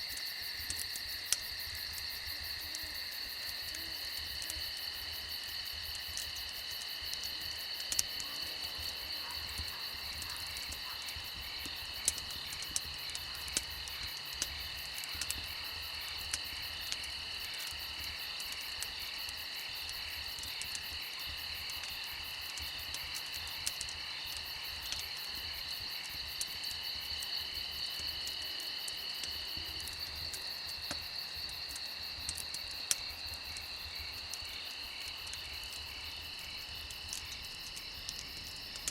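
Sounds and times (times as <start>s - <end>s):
crickets and insects trilling: 0.0s - 38.9s
wood fire crackling: 0.0s - 38.9s.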